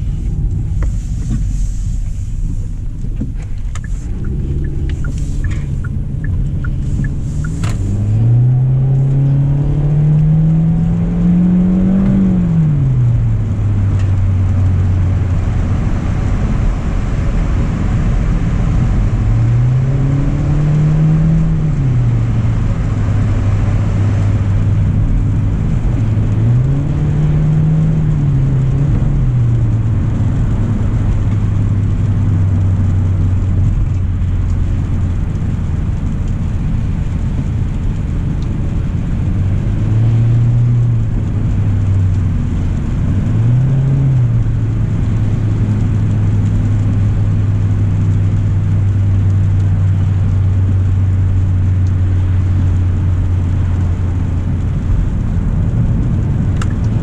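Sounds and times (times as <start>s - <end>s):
tyres hissing on wet road: 0.0s - 56.8s
car engine accelerating: 0.0s - 57.0s.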